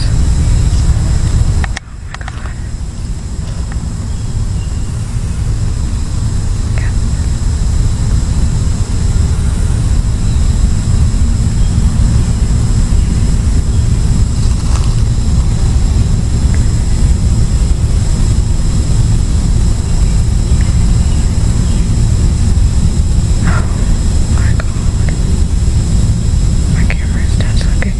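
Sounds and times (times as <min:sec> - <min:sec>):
faint high whine: 0:00.0 - 0:27.9
wind buffeting microphone: 0:00.0 - 0:27.9.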